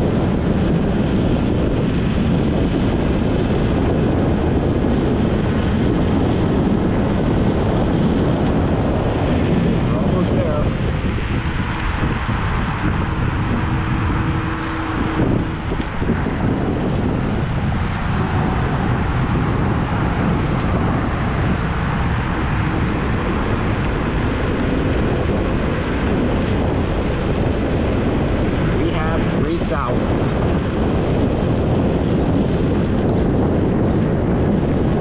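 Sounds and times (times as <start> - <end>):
scooter road noise: 0.0 - 35.0
wind rush: 0.0 - 35.0.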